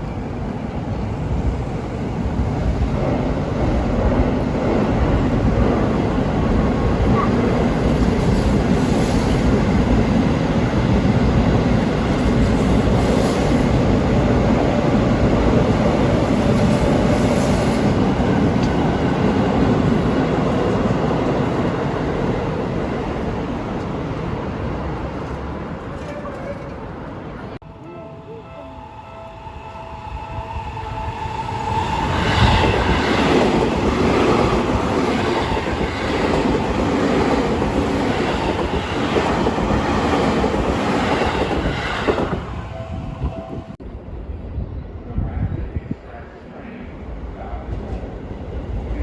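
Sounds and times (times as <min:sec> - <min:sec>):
train wheels rumbling on rails: 0:00.0 - 0:27.6, 0:30.1 - 0:49.0.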